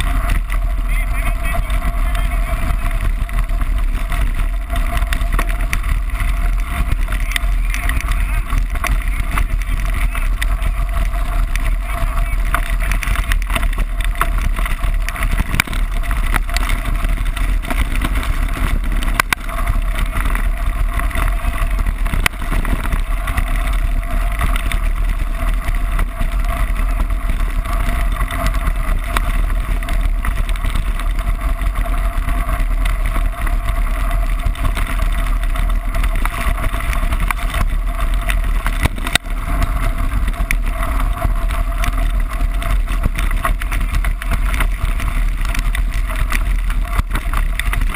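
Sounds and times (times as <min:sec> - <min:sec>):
mountain bike rolling on gravel: 0:00.0 - 0:47.9
wind rushing over microphone: 0:00.0 - 0:47.9.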